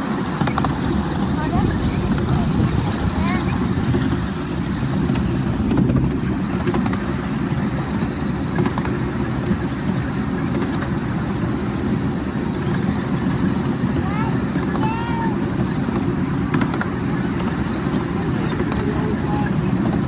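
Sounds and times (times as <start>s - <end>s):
miniature train rumbling on track: 0.0s - 20.0s.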